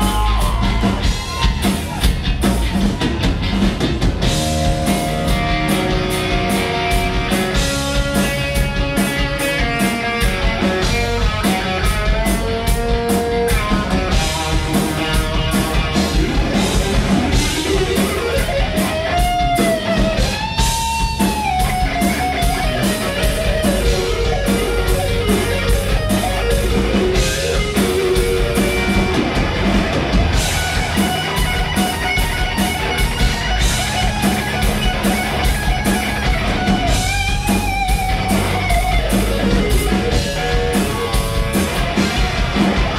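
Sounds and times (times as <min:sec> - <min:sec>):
electric guitar with bending notes: 0:00.0 - 0:42.9
rock band playing live: 0:00.0 - 0:42.9.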